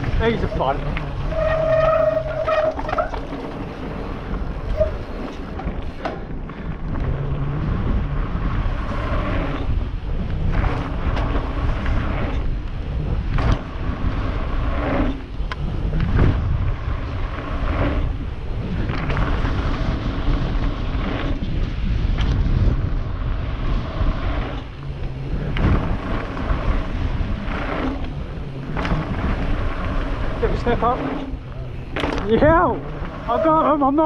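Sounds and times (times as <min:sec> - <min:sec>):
bike clacking over bumps: 0:00.0 - 0:34.0
bike tyres on gravel trail: 0:00.0 - 0:34.0
wind buffeting microphone: 0:00.0 - 0:34.0.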